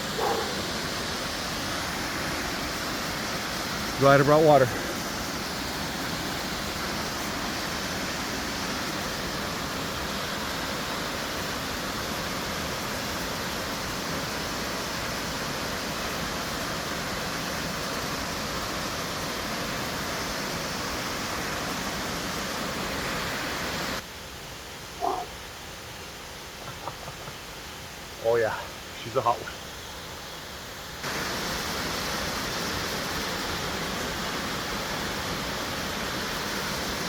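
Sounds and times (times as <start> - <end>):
waterfall rushing: 0.0 - 24.0, 26.4 - 37.0.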